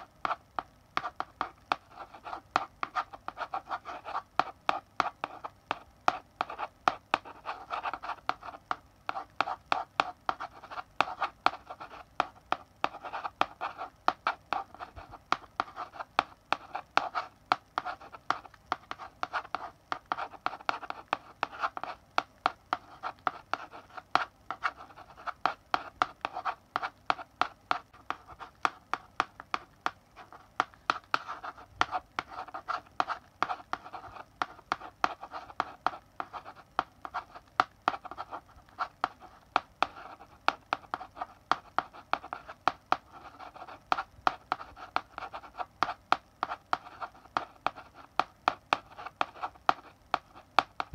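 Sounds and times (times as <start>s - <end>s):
chalk scratching on blackboard: 0.0s - 50.9s.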